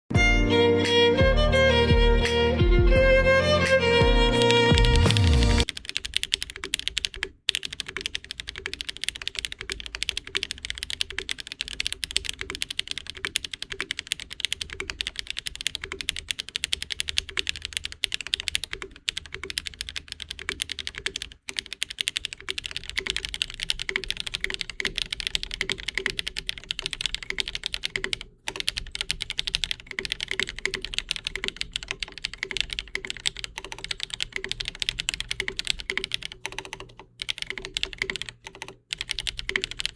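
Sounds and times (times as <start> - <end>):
typing on mechanical keyboard: 4.4 - 39.9.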